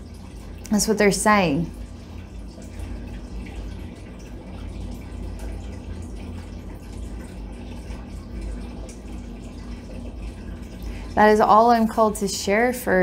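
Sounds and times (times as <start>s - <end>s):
faint water trickling: 0.0s - 13.0s.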